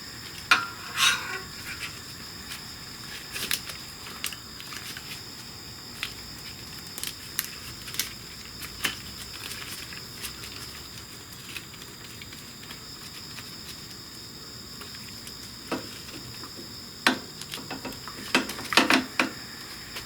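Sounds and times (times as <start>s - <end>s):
steady high-pitched whine: 0.0s - 20.0s.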